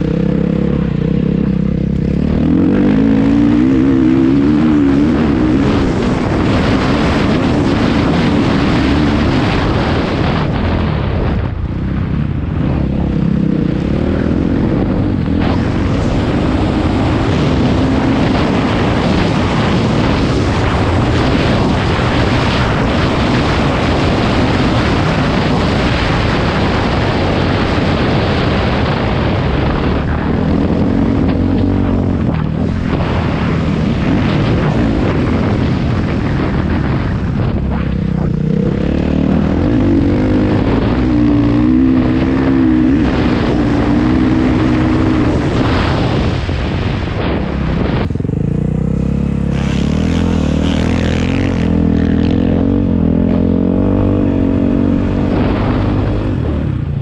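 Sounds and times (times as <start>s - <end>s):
dirt bike engine revving: 0.0s - 11.3s, 12.0s - 57.0s.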